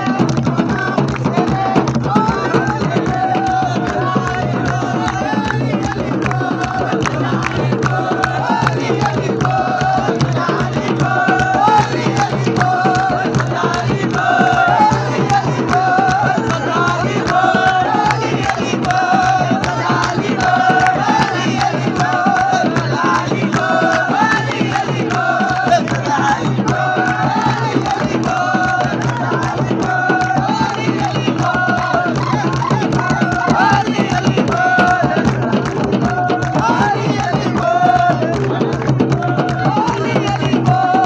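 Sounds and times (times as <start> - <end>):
dancing crowd noise: 0.0 - 41.0
fast steady drumming: 0.0 - 41.0.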